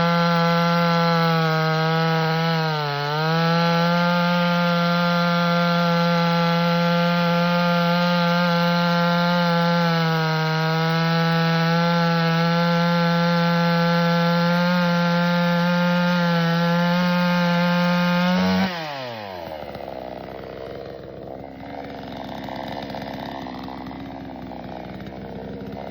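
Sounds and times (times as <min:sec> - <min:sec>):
chainsaw running: 0:00.0 - 0:25.9.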